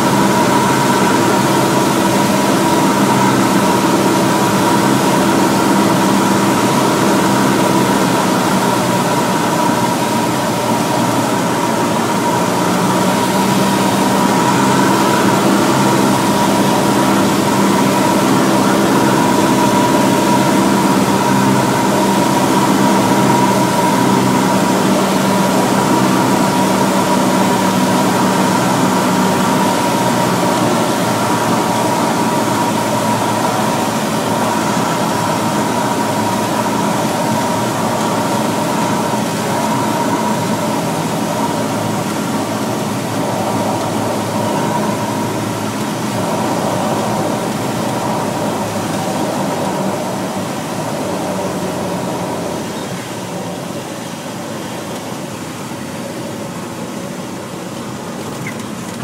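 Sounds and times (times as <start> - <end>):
plane engine and propeller droning: 0.0 - 59.0.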